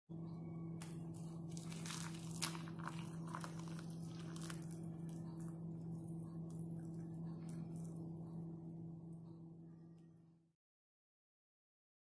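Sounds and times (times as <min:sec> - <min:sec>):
low hum: 0:00.1 - 0:10.5.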